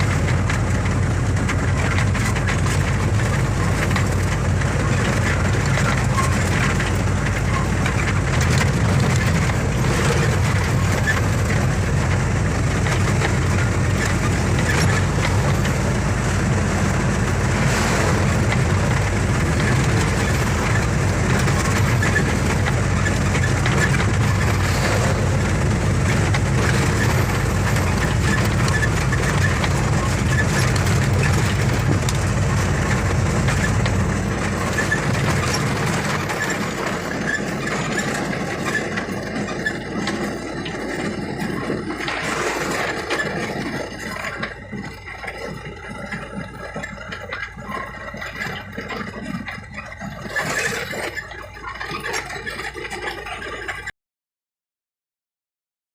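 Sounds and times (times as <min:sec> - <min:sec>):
heavy truck engine and road rumble: 0:00.0 - 0:54.0.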